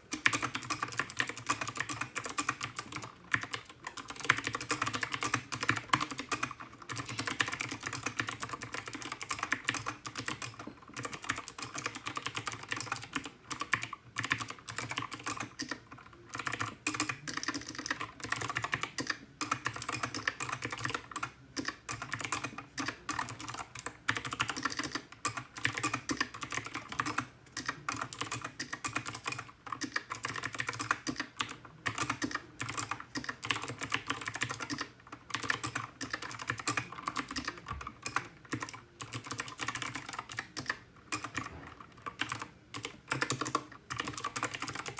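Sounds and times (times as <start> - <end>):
mechanical keyboard typing: 0.0 - 44.9.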